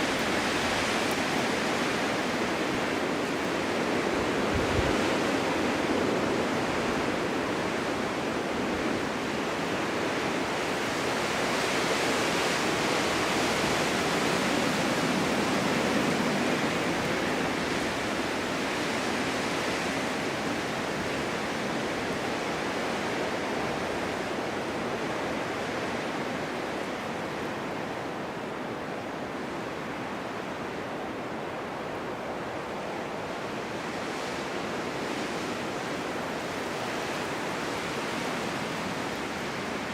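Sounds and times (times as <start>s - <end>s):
wind blowing in a snowstorm: 0.0s - 39.9s.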